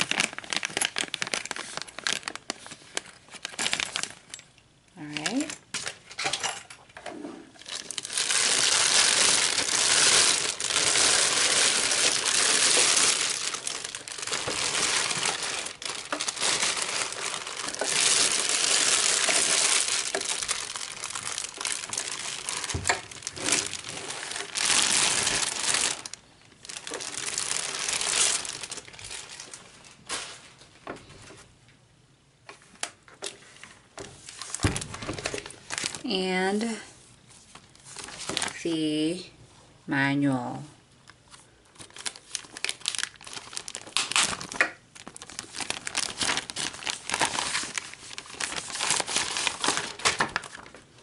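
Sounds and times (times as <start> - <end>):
plastic bag crinkling: 0.0 - 6.1, 7.5 - 30.6, 34.2 - 36.7, 37.5 - 39.0, 41.1 - 51.0.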